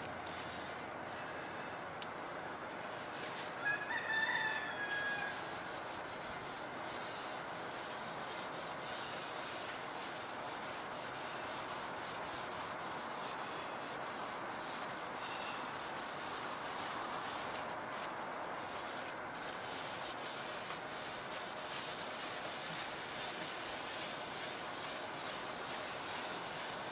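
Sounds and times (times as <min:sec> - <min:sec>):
cloth scrubbing a lens: 0:02.9 - 0:26.9.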